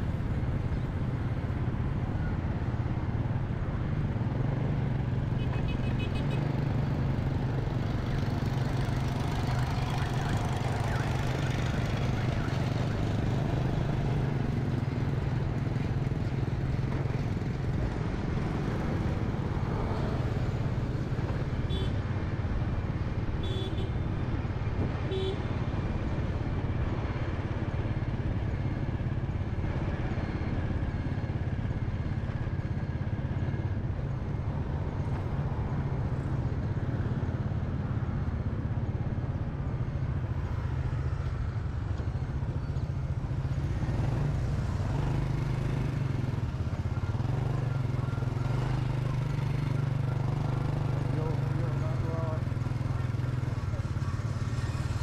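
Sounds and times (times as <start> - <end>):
road rumble: 0.0 - 55.0.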